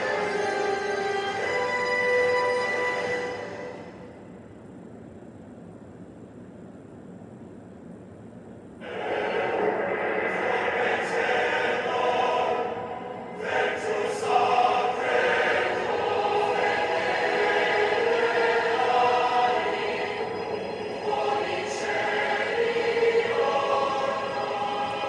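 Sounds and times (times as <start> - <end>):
choir singing sustained chords: 0.0 - 4.4, 8.8 - 25.0.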